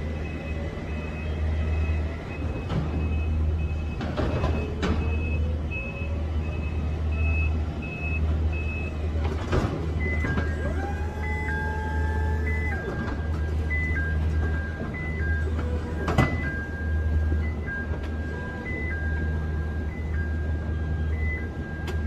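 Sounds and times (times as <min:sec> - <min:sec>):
engine hum: 0:00.0 - 0:22.0
backup alarm beeping: 0:00.1 - 0:09.0, 0:10.0 - 0:22.0.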